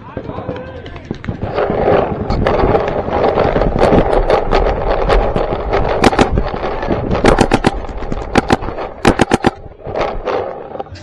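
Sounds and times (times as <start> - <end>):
paintball markers popping: 0.0 - 10.9
steady rushing noise: 0.0 - 11.0.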